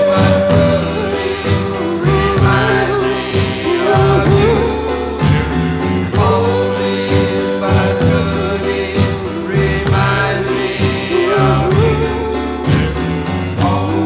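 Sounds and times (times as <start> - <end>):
pop ballad with vocal harmonies: 0.0 - 14.0.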